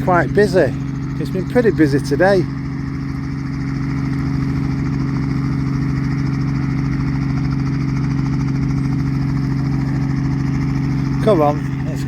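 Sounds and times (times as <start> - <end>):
helicopter engine idling: 0.0 - 12.0.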